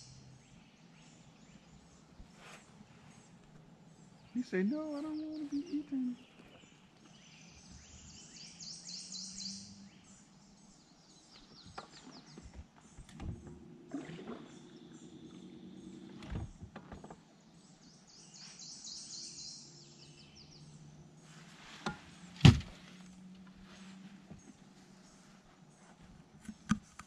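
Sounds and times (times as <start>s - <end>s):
faint outdoor background noise: 0.0s - 27.0s.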